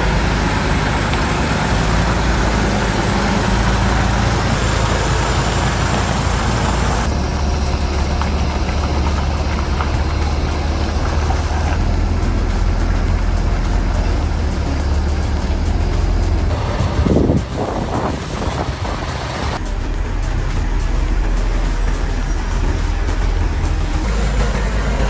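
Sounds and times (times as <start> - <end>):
heavy machinery engine humming: 0.0 - 25.0.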